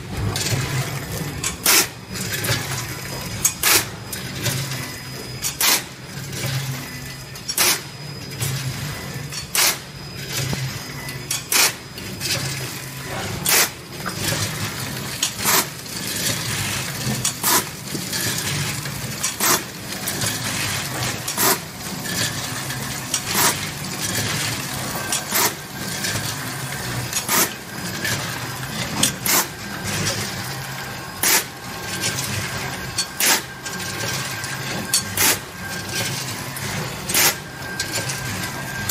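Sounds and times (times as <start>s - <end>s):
sharp machine clack: 7.4s - 38.9s.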